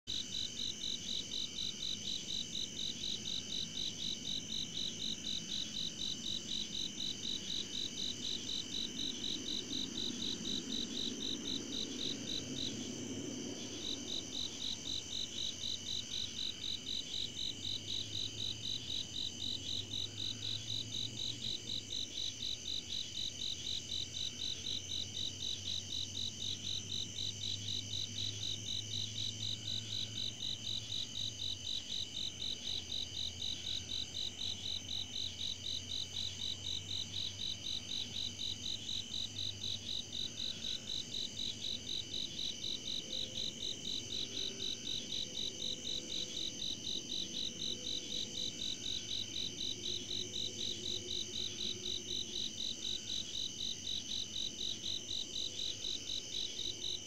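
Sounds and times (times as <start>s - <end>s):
cricket chirping: 0.1s - 57.0s
insects trilling: 0.1s - 57.0s.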